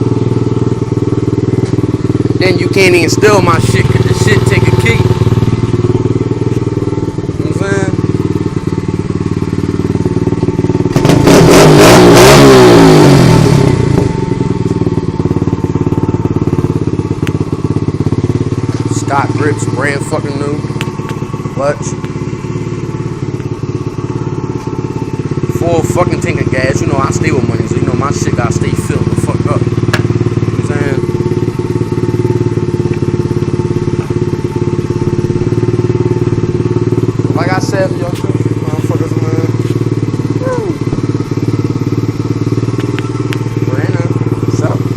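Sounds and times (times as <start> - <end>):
dirt bike engine idling and revving: 0.0 - 44.9.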